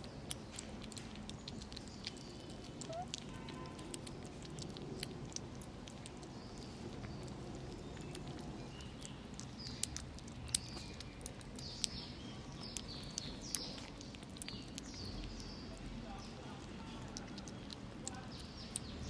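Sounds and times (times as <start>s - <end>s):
kittens chewing: 0.0s - 19.0s
kittens chirping: 0.0s - 19.0s.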